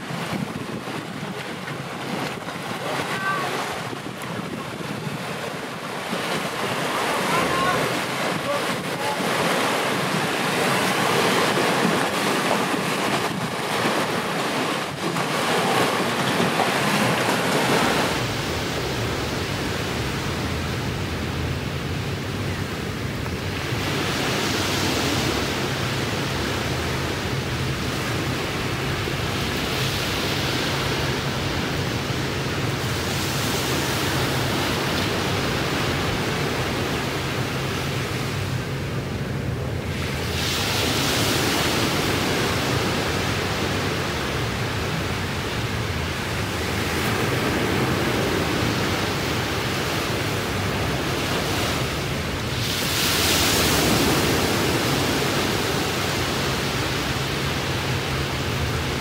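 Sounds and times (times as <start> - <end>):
ocean surf: 0.0 - 59.0
wind: 0.0 - 59.0.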